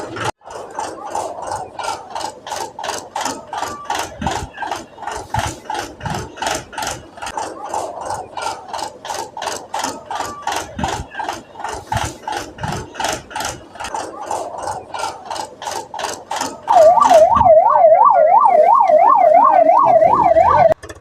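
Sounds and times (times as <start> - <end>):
tyres clattering over wooden planks: 0.0 - 17.5.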